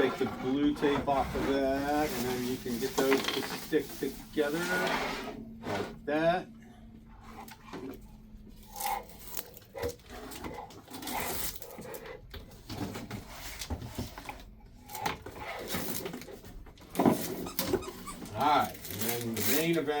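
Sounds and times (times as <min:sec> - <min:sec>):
packaging rustling and scraping: 0:00.0 - 0:06.0, 0:08.6 - 0:20.0.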